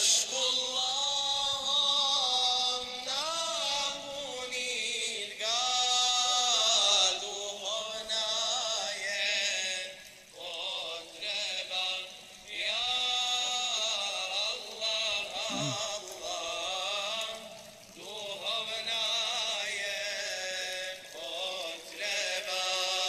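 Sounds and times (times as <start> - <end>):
man singing devotional hymn: 0.0 - 23.0.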